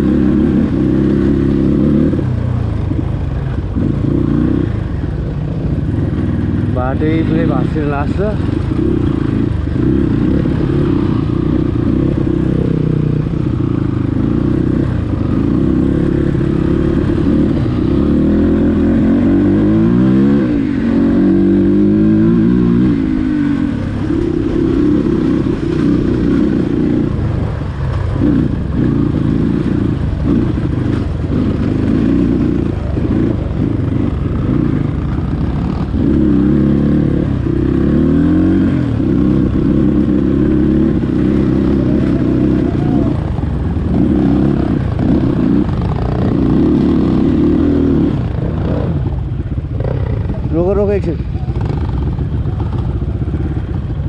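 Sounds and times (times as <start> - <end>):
dirt bike engine revving: 0.0 - 2.9, 3.7 - 4.9, 5.9 - 53.9.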